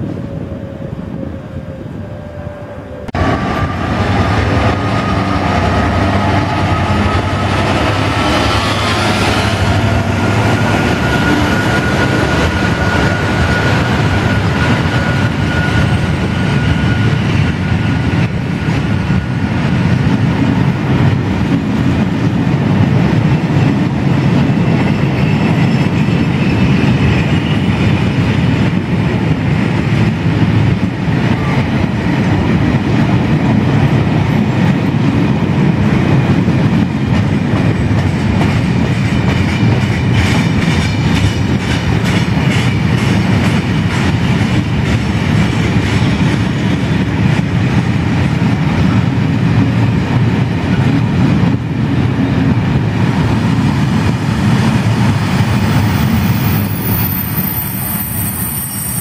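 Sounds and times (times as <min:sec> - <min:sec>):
freight train rumbling and clattering: 0:00.0 - 0:59.0.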